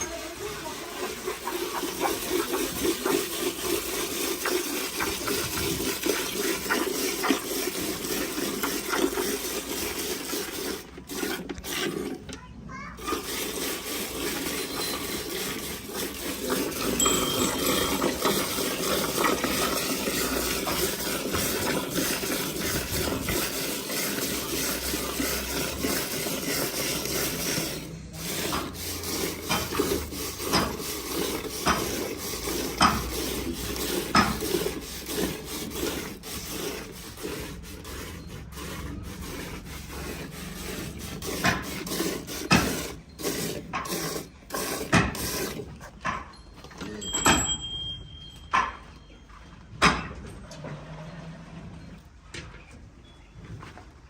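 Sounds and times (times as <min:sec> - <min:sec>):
milk squirting into metal pail: 0:00.0 - 0:46.8.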